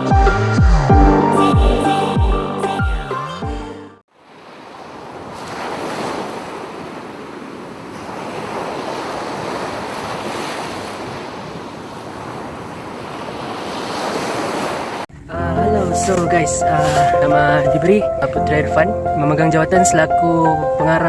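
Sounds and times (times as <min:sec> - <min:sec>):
wind: 0:04.1 - 0:21.0.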